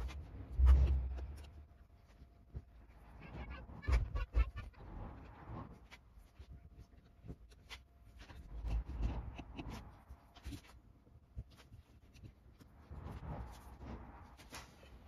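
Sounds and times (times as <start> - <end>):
faint scratching and clicks: 0.0 - 15.0.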